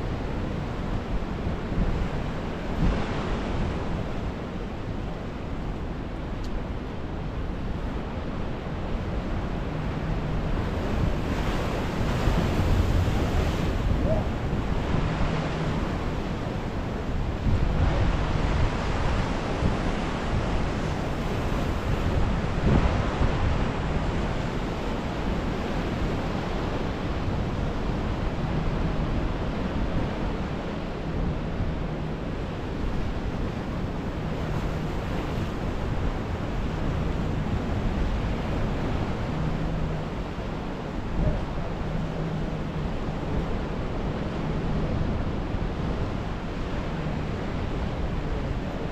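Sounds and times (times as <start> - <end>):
wind buffeting microphone: 0.0 - 48.9
surf washing over rocks: 6.7 - 48.9.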